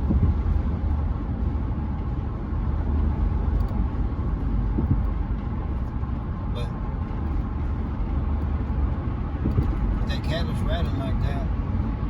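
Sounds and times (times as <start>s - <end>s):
road and engine rumble in truck cab: 0.0s - 12.0s.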